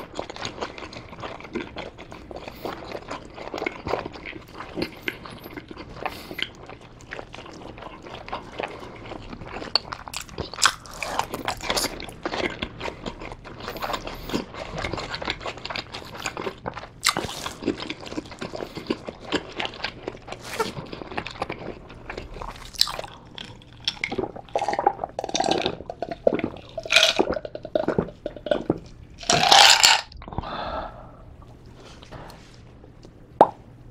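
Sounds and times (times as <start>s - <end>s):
chewing and swallowing: 0.0s - 30.5s.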